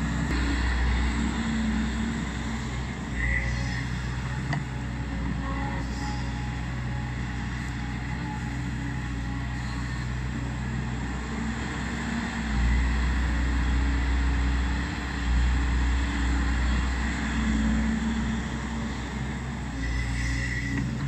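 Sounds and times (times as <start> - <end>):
diesel excavator engine rumbling: 0.0 - 21.0.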